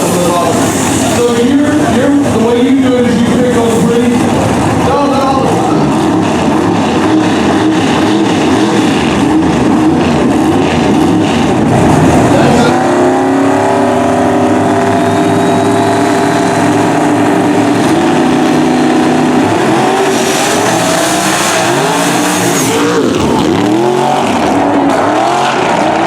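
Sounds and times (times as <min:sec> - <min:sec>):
race car engine: 0:00.0 - 0:26.0.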